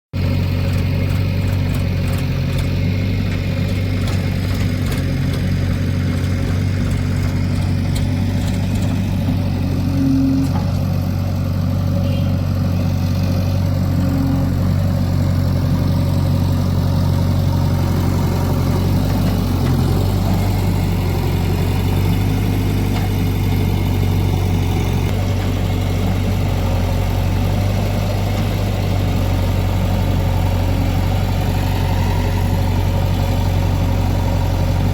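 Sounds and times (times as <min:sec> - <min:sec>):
diesel engine humming: 0:00.2 - 0:34.9.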